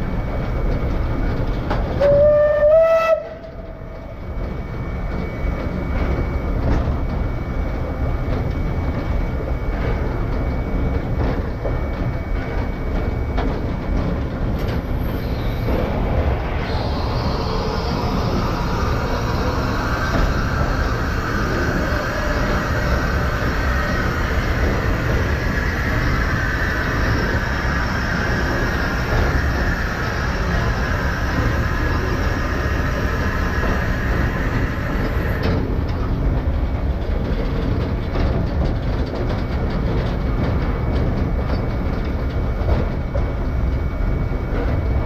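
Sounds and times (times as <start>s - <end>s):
train rumbling along track: 0.0s - 45.0s.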